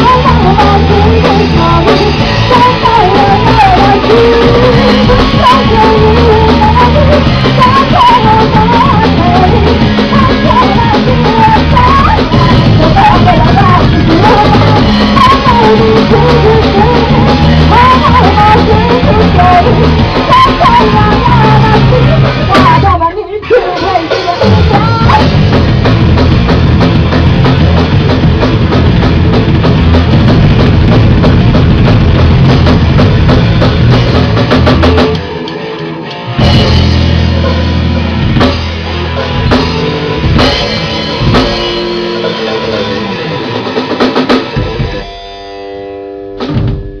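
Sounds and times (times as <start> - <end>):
live metal band playing: 0.0 - 47.0.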